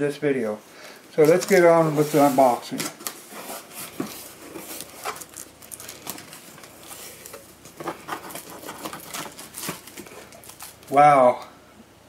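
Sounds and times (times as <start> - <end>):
plastic rustling and crinkling: 1.0 - 11.1.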